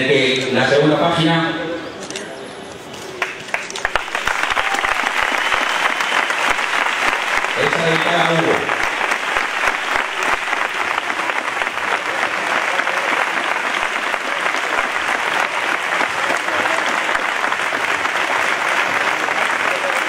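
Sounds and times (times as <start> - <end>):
crowd applauding: 3.2 - 20.0.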